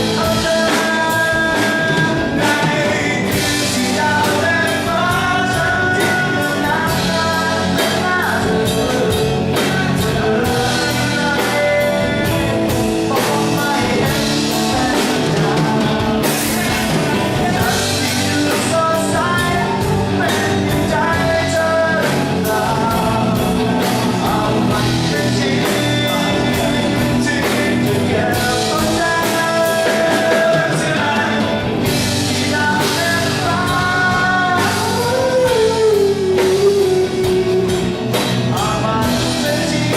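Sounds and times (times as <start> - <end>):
bass guitar: 0.0 - 39.9
drum kit: 0.0 - 39.9
electric lead guitar: 0.0 - 39.9
vocals: 0.0 - 39.9.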